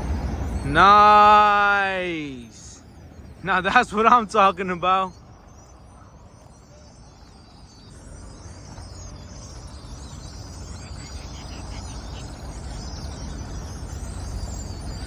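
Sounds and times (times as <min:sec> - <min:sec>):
flock of small birds chirping: 0:00.0 - 0:15.0.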